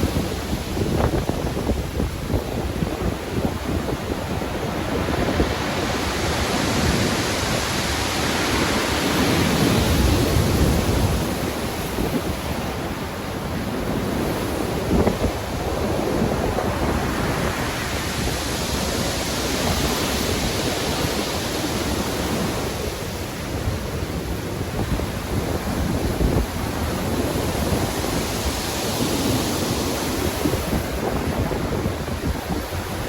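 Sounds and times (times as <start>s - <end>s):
sea waves breaking: 0.0s - 33.0s.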